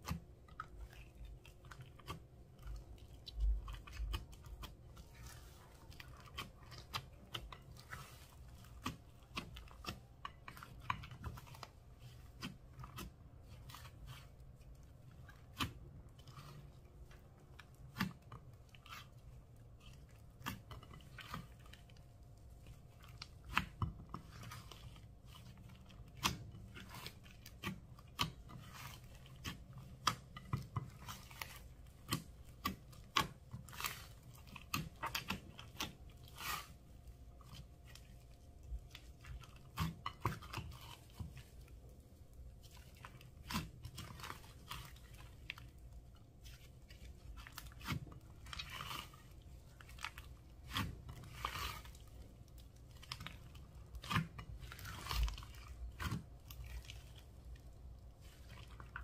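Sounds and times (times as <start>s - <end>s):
slime squishing with clicks and pops: 0.0s - 59.0s.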